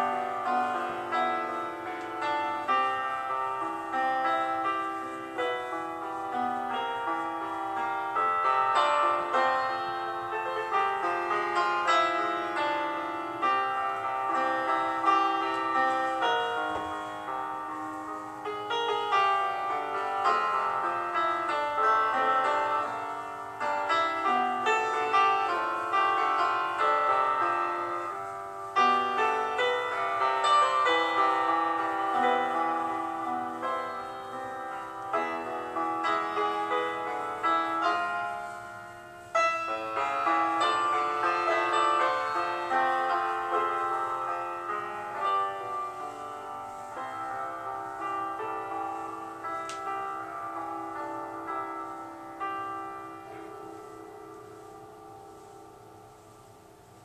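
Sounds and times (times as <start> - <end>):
piano melody: 0.0 - 57.0.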